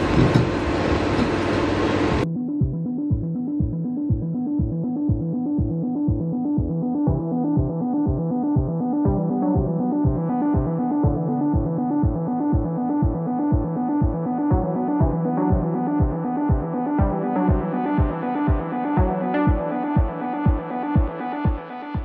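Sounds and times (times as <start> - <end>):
synthesizer chords: 2.1 - 22.0
kick drum beat: 2.6 - 22.0.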